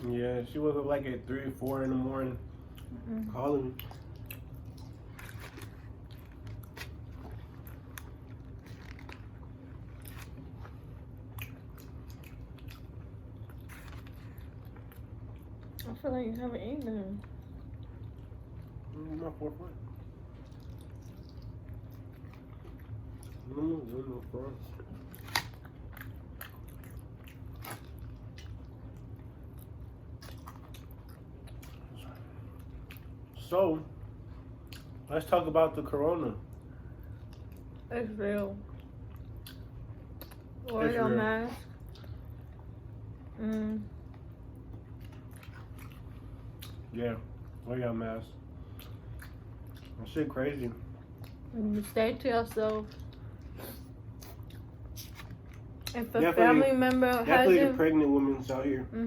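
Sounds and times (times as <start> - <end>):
crunchy eating and chewing: 0.0 - 59.0
steady low hum: 0.0 - 59.0.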